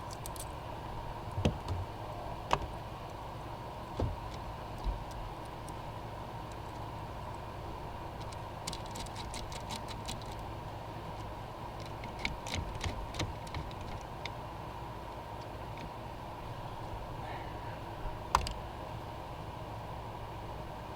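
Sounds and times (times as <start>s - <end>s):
steady background hum: 0.0s - 20.9s.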